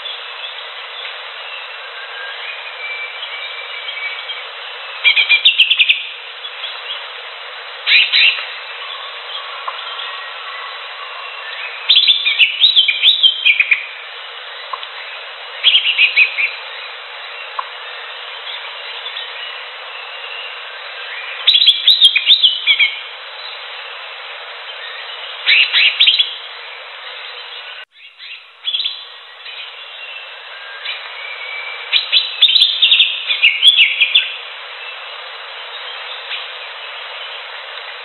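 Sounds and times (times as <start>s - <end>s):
bird chirping and twittering: 0.0s - 7.1s, 7.9s - 24.0s, 24.6s - 38.0s
steady background hiss: 0.0s - 38.0s.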